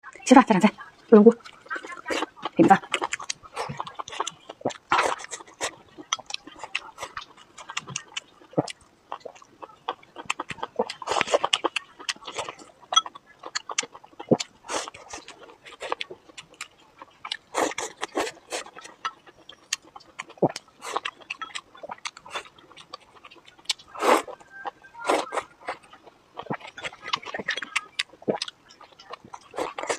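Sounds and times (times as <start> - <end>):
wet chewing and mouth smacking: 1.4 - 29.9.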